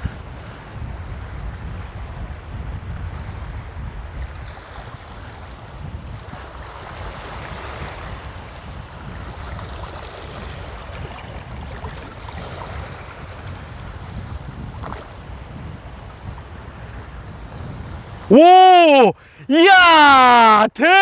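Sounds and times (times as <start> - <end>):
small waves washing: 0.0 - 20.6
wind buffeting microphone: 0.0 - 20.8.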